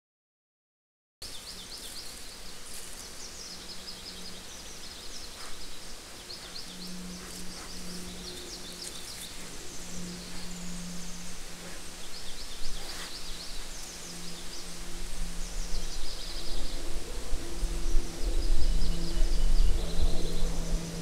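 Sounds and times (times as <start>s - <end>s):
steady microphone hiss: 1.2s - 21.0s
low buzz: 1.3s - 21.0s.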